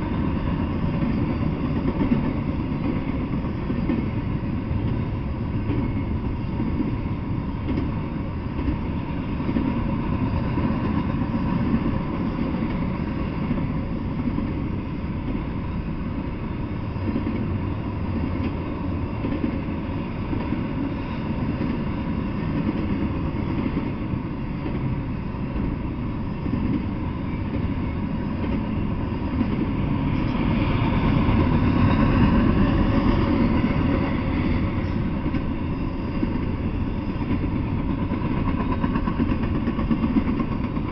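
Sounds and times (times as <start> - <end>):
freight train wheels rumbling on rails: 0.0 - 40.9.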